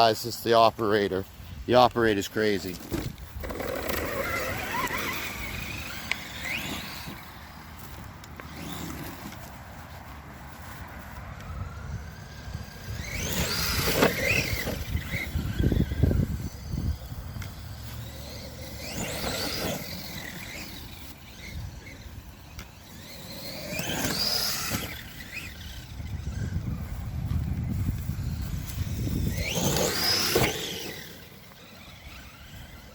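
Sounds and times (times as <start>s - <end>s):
rc truck motor whining: 1.2s - 32.9s.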